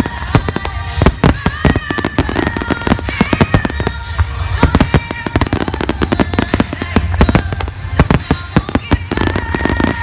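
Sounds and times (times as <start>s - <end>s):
fireworks bangs and crackles: 0.0s - 10.0s
music playing: 0.0s - 10.0s.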